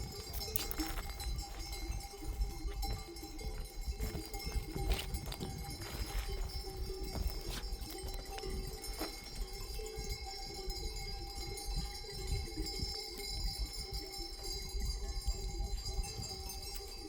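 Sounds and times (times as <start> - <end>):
sheep bells ringing: 0.0 - 17.0.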